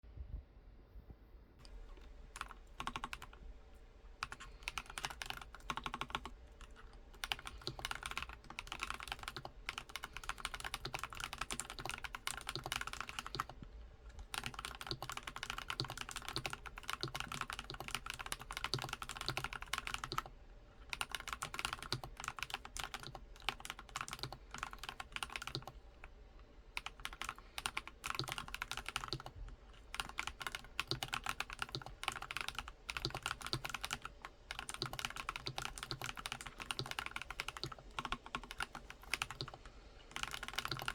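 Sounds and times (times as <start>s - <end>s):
mechanical keyboard typing: 1.6s - 3.4s, 4.2s - 20.3s, 20.9s - 25.8s, 26.8s - 40.9s.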